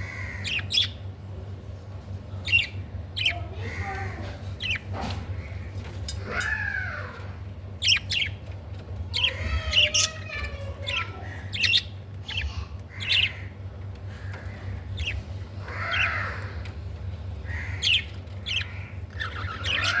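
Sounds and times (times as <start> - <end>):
budgerigars chirping and chattering: 0.0 - 1.1, 2.3 - 7.1, 7.7 - 20.0
steady low hum: 0.0 - 20.0.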